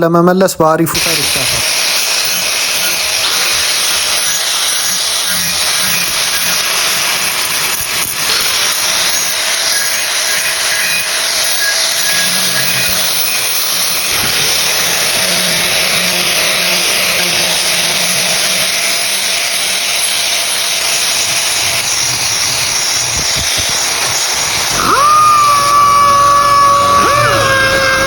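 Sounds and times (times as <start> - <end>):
power tool working wood: 1.0 - 28.0.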